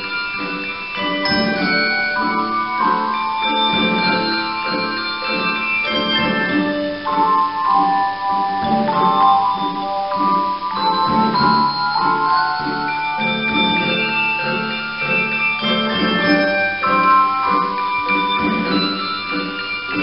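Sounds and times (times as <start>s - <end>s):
handbell choir playing: 0.0s - 20.0s.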